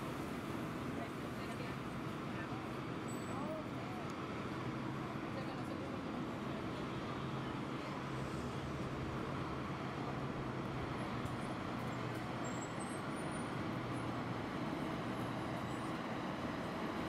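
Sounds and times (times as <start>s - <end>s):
passing vehicles: 0.0s - 17.0s.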